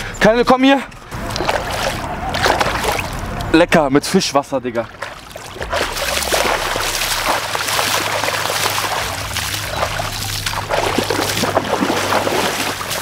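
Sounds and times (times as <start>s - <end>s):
dog wading through water: 1.2s - 3.5s, 4.8s - 13.0s
hands scrubbing in water: 1.2s - 3.5s, 4.8s - 13.0s.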